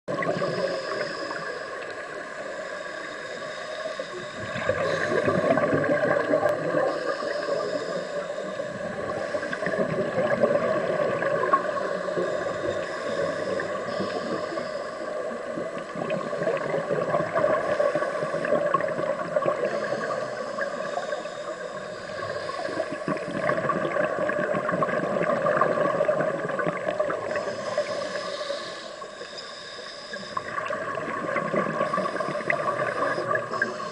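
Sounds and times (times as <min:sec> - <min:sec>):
underwater bubbles gurgling: 0:00.1 - 0:33.9.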